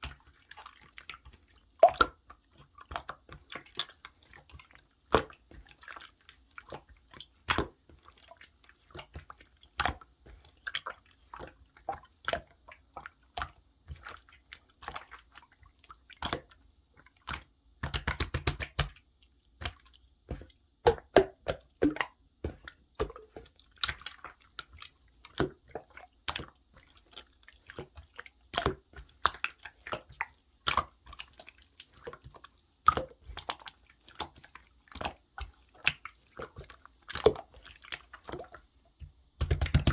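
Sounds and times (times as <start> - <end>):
slime clicking and squelching: 0.0 - 39.9.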